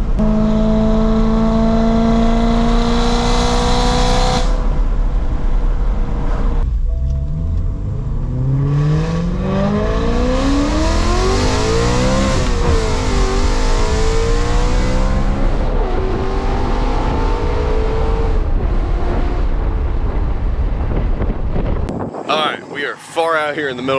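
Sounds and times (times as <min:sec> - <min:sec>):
car exhaust accelerating hard: 0:00.0 - 0:22.2.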